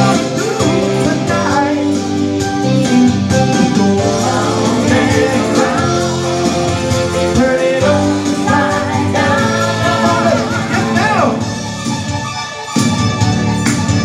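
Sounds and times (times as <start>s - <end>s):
soul-funk band music: 0.0s - 14.0s.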